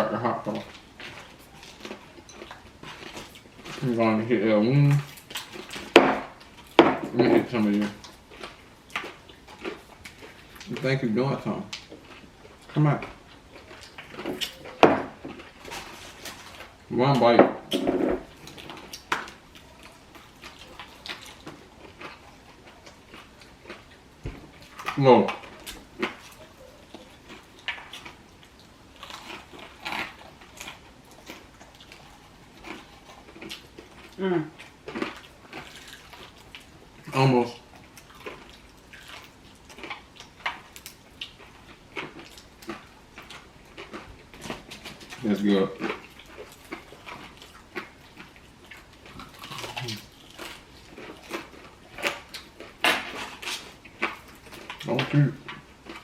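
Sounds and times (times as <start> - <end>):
crunching fried chicken: 0.0 - 56.0
chewing and lip-smacking: 0.4 - 4.1, 4.8 - 56.0.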